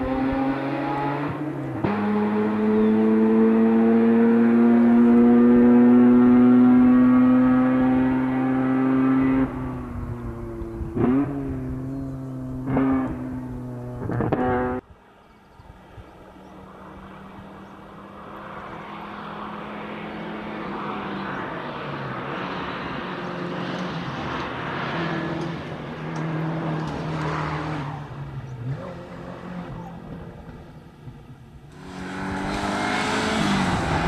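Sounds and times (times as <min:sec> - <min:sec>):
distant rally car engine: 0:00.0 - 0:34.0.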